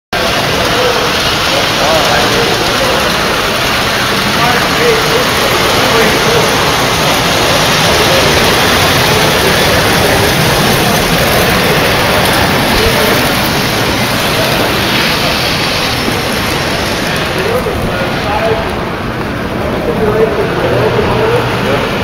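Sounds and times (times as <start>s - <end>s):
model trains rumbling on metal track: 0.1s - 22.0s.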